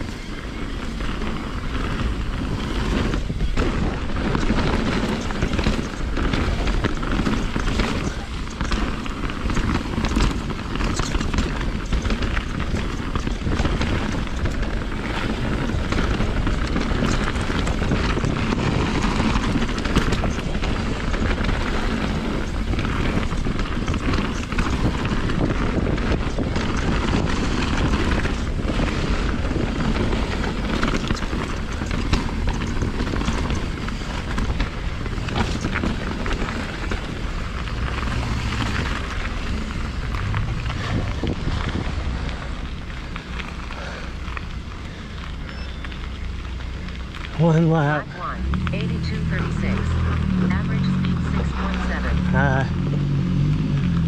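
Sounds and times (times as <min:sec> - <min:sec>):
wind on microphone: 0:00.0 - 0:44.7
bike rattling over ground: 0:00.0 - 0:54.0
bike tyre noise: 0:00.0 - 0:54.0.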